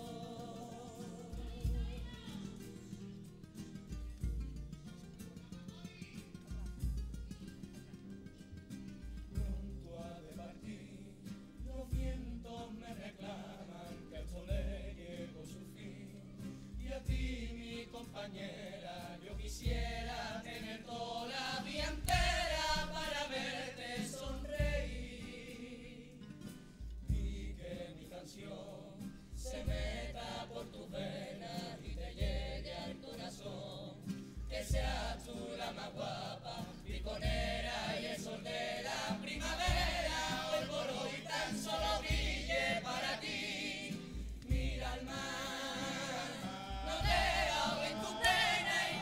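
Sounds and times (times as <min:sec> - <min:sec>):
bass drum beat: 0:00.0 - 0:02.9, 0:03.7 - 0:05.0, 0:06.5 - 0:07.7, 0:08.7 - 0:16.0, 0:16.6 - 0:26.0, 0:26.8 - 0:49.0
voices singing together: 0:00.0 - 0:03.3, 0:09.2 - 0:49.0
guitars playing: 0:00.0 - 0:18.0, 0:18.6 - 0:49.0.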